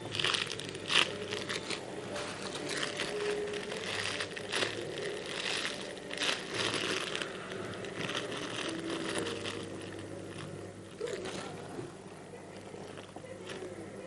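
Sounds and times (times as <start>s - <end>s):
foam toys crinkling and rustling: 0.0s - 14.0s.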